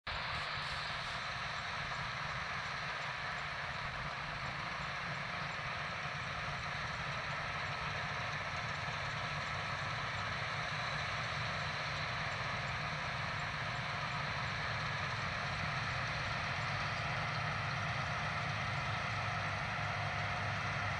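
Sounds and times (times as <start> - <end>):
combine harvester droning: 0.1 - 20.9.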